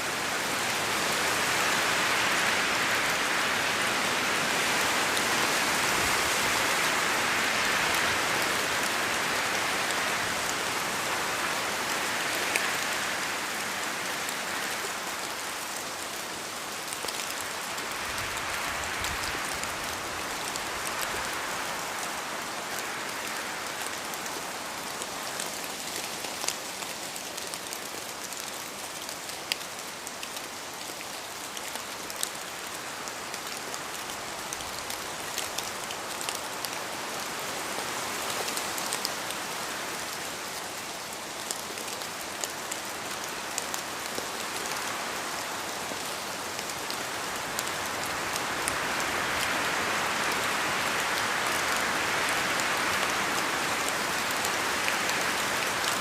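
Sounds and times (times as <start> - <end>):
rain falling in forest: 0.0 - 56.0.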